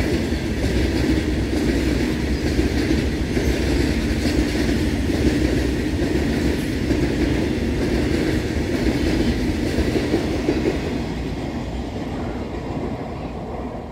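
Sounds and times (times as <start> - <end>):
freight train wheels on rails: 0.0 - 13.9.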